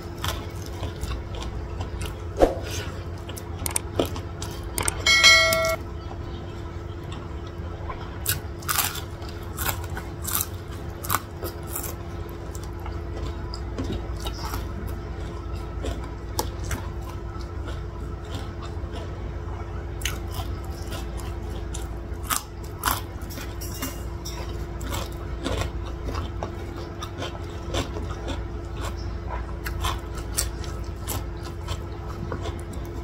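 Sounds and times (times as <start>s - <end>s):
chewing crispy food: 0.0s - 5.1s, 6.0s - 33.0s
steady low hum: 0.0s - 33.0s.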